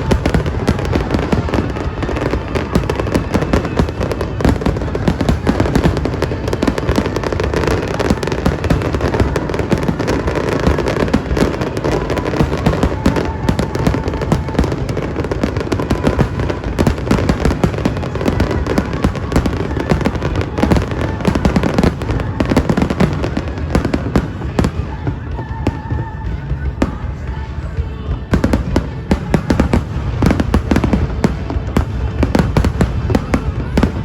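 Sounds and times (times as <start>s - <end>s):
fireworks bangs and crackling pops: 0.0s - 34.0s.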